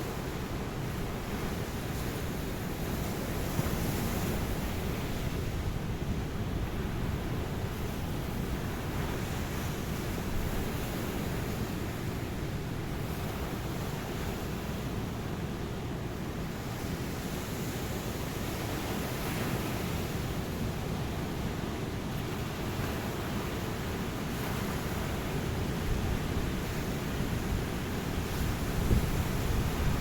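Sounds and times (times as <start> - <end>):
waves washing on beach: 0.0 - 30.0.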